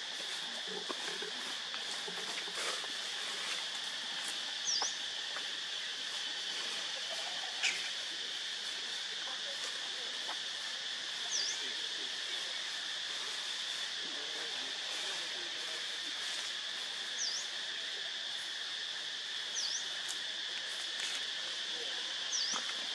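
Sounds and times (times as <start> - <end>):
insects droning: 0.0 - 22.9.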